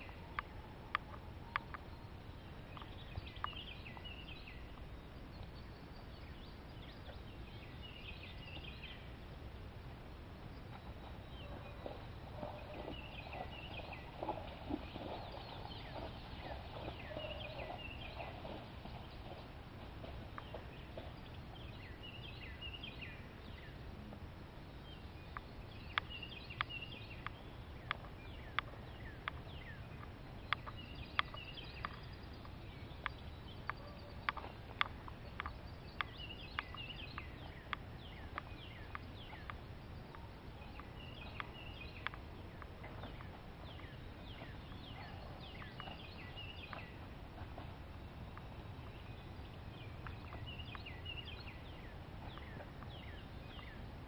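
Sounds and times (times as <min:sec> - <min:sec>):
birds chirping: 0:00.0 - 0:54.0
outdoor background noise: 0:00.0 - 0:54.0.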